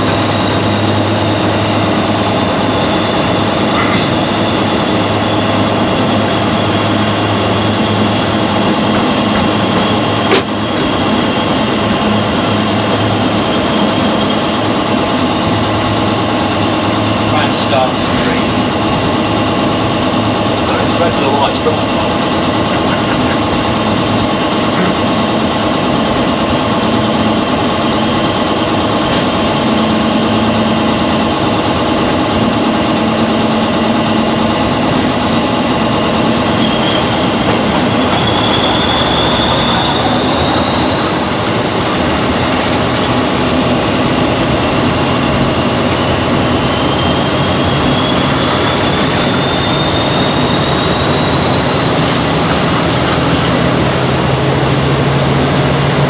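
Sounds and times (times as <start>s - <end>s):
turbocharger whistle rising: 0.0s - 31.7s, 32.6s - 56.0s
diesel locomotive engine running: 0.0s - 56.0s
rail noise: 0.0s - 56.0s.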